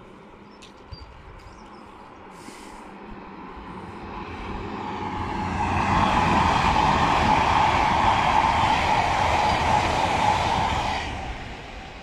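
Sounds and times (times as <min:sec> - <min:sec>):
high-speed train approaching: 0:00.0 - 0:12.0.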